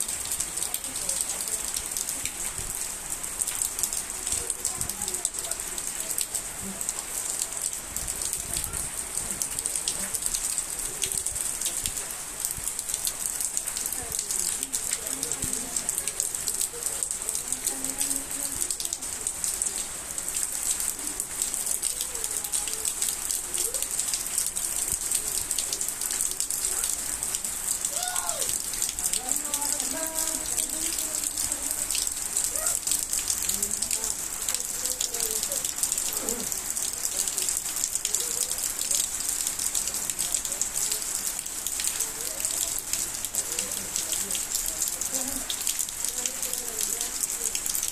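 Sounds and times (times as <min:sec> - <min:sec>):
torrential rain: 0:00.0 - 0:47.9.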